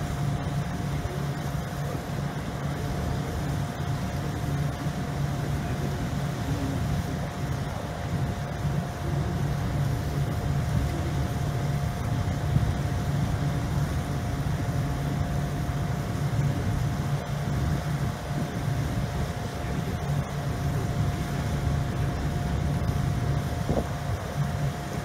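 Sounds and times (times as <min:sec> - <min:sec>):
ship engines droning: 0:00.0 - 0:25.0.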